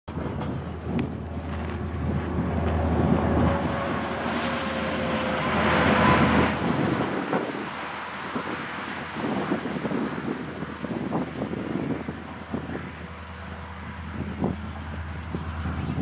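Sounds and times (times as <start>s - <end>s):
highway traffic: 0.1s - 16.0s
truck passing: 0.1s - 16.0s
wind on microphone: 0.1s - 16.0s.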